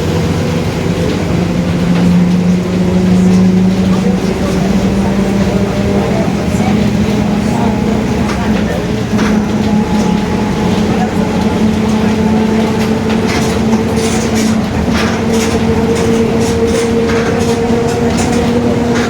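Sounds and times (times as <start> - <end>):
bus droning hum: 0.0 - 19.0
road noise: 0.0 - 19.0
body rattles: 1.1 - 19.0.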